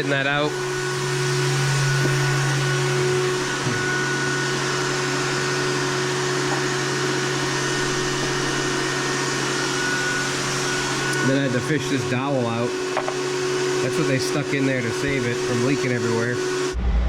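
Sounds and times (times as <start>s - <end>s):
electric pump humming: 0.0s - 16.8s.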